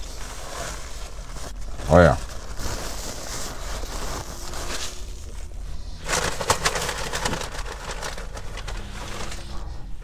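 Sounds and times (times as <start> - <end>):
paper rustling and crinkling: 0.0 - 9.8
steady low hum: 0.0 - 10.0.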